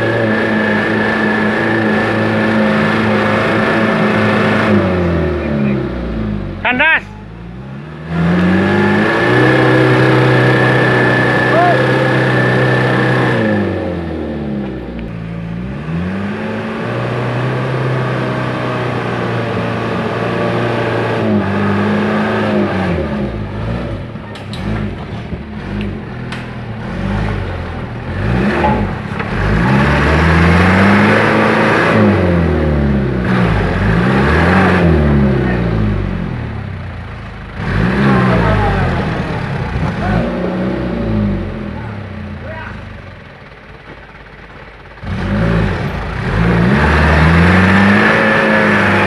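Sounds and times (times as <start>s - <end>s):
truck diesel engine revving: 0.0s - 49.0s.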